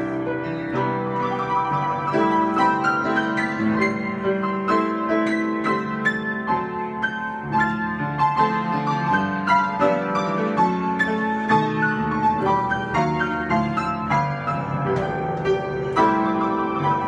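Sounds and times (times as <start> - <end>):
solo piano improvisation: 0.0 - 17.0.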